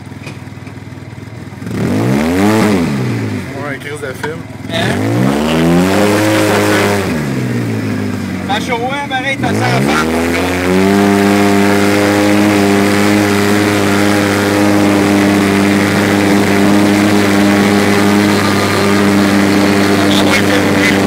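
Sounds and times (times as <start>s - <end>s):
engine at high revs: 0.0s - 21.0s.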